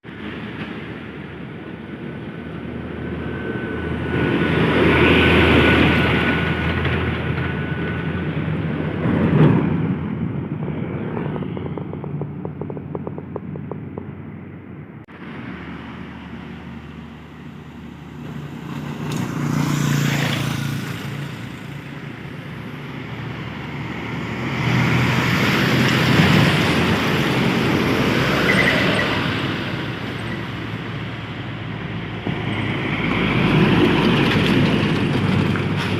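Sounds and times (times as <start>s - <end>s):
road vehicle engines running: 0.0s - 35.9s.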